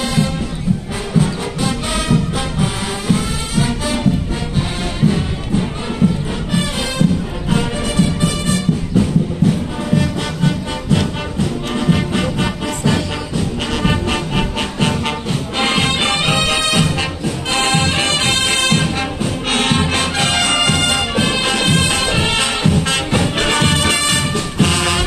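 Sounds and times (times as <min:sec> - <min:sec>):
brass instruments playing melody: 0:00.0 - 0:25.0
steady low drum beat: 0:00.0 - 0:25.0.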